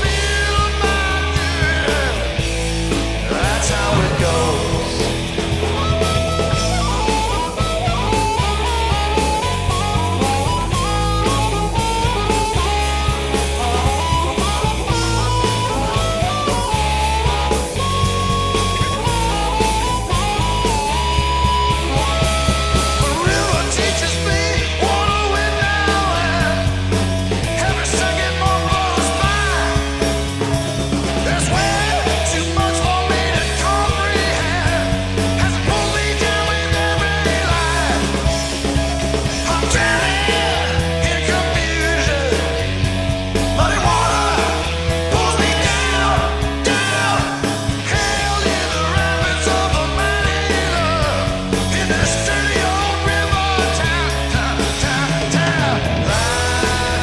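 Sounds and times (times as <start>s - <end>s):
bass: 0.0s - 57.0s
rock song with singing: 0.0s - 57.0s
drum beat: 0.7s - 57.0s.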